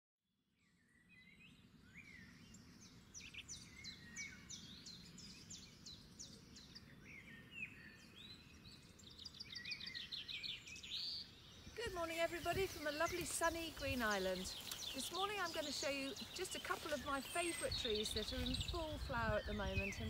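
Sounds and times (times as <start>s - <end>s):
faint birdsong: 0.5s - 20.0s.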